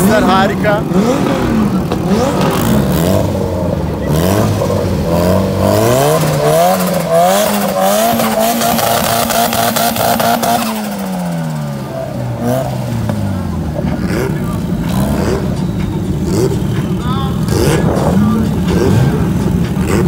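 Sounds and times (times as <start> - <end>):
car engine revving: 0.0 - 20.0
exhaust crackle: 0.0 - 20.0.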